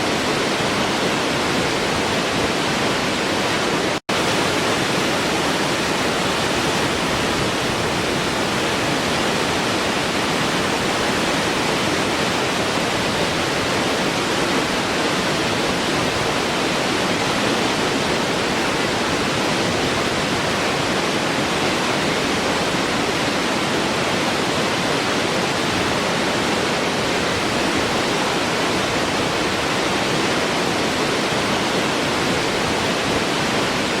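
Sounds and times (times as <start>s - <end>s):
waterfall splashing: 0.0s - 34.0s.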